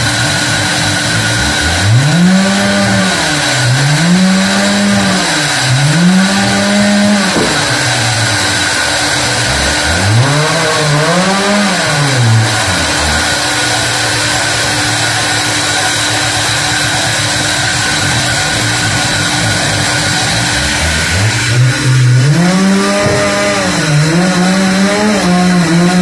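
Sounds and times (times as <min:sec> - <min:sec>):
motor revving up and down: 0:00.0 - 0:26.0
sawmill machinery hum and whine: 0:00.0 - 0:26.0.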